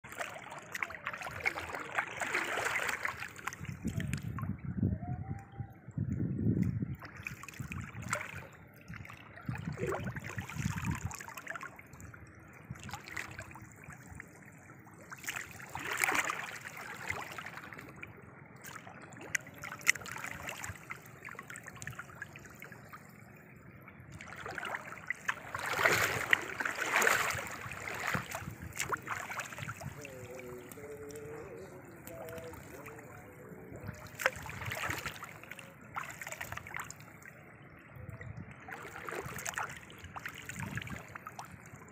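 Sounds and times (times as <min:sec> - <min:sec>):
water splashing and trickling: 0:00.0 - 0:41.9.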